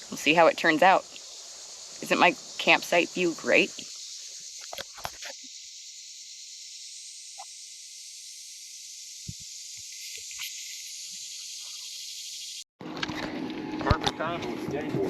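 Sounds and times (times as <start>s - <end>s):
insects calling: 0.0s - 12.6s.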